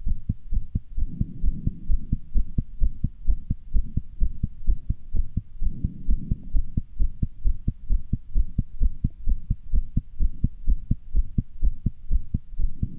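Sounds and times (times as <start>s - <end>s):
heart beating fast: 0.0s - 12.9s.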